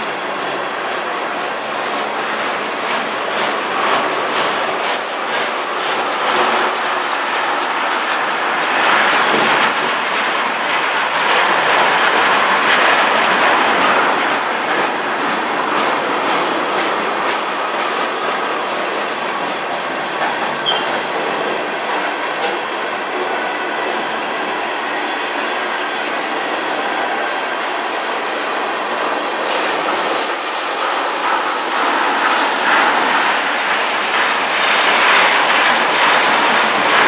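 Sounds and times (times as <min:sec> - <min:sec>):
freight train rolling past: 0:00.0 - 0:37.0
wheels clicking over rail joints: 0:00.0 - 0:37.0.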